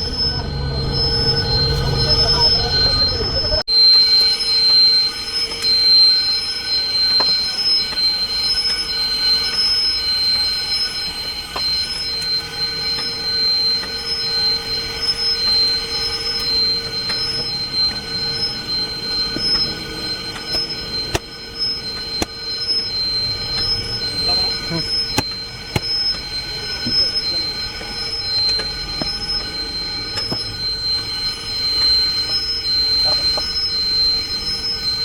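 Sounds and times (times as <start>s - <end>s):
high-pitched mechanical whine: 0.0s - 35.0s.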